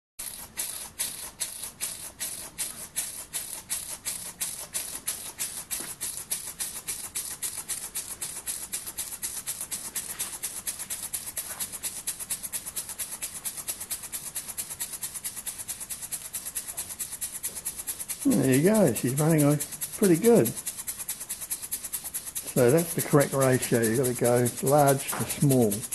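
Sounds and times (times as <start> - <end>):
model steam engine chuffing: 0.2 - 25.9.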